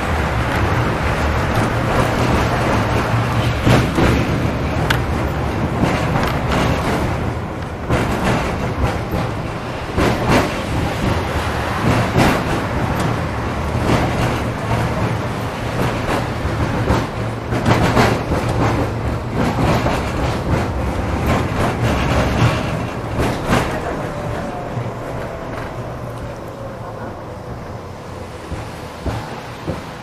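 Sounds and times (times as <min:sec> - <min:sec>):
tram rumbling on rails: 0:00.0 - 0:30.0
wheels clacking on track: 0:00.0 - 0:30.0.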